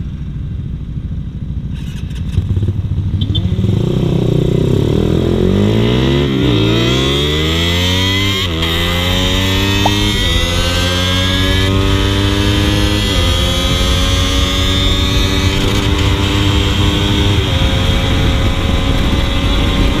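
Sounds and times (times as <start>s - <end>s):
motorcycle engine accelerating: 0.0s - 20.0s
wind rumble on microphone: 2.1s - 20.0s.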